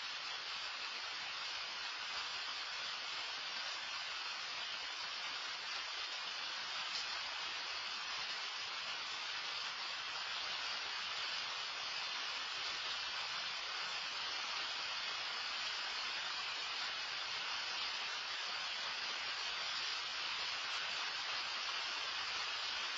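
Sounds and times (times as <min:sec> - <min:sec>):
rain falling: 0:00.0 - 0:22.9.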